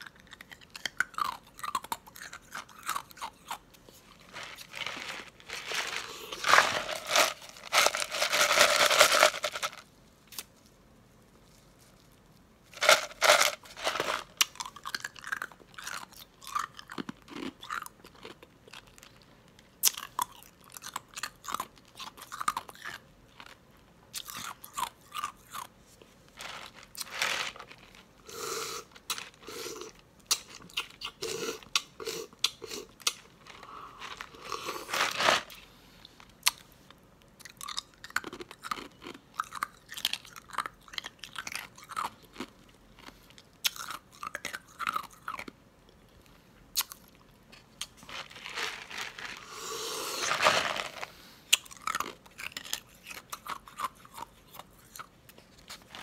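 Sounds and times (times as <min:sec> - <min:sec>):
ice being crunched and chewed: 0:00.0 - 0:09.7, 0:12.8 - 0:23.6, 0:24.2 - 0:25.7, 0:26.4 - 0:35.6, 0:37.4 - 0:45.5, 0:46.8 - 0:56.0.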